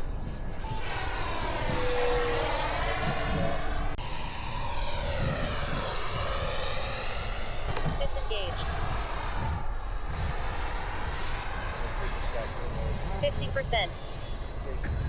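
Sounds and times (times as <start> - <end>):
model jet fan whine: 0.0 - 15.0.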